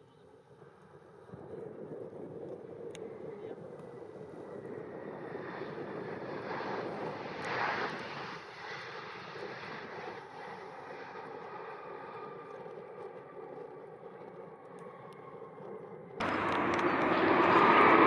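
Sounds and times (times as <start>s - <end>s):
jet engines passing: 0.6s - 18.0s.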